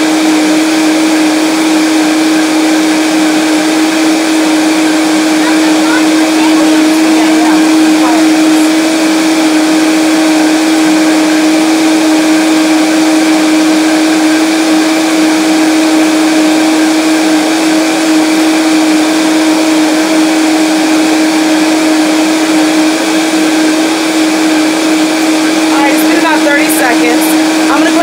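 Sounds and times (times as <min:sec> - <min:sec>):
blender running: 0:00.0 - 0:28.0.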